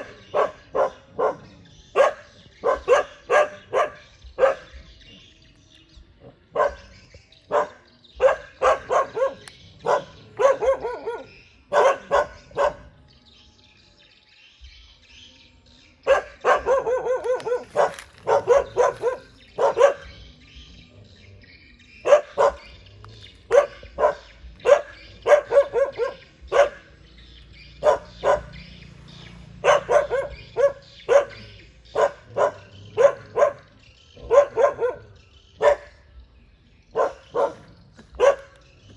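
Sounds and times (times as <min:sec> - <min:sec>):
dogs barking: 0:00.0 - 0:13.1, 0:16.0 - 0:38.9.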